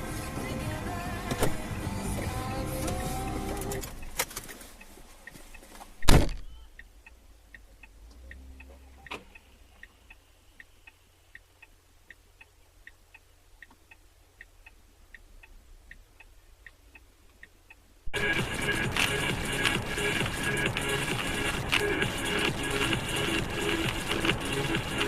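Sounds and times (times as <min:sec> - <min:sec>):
car indicator relay ticking: 0:00.7 - 0:25.0.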